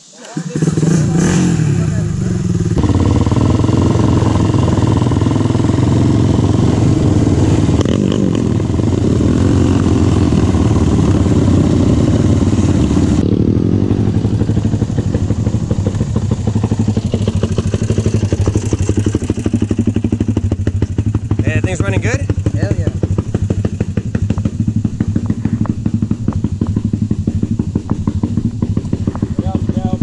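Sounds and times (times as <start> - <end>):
quad engine running: 0.2 - 30.0.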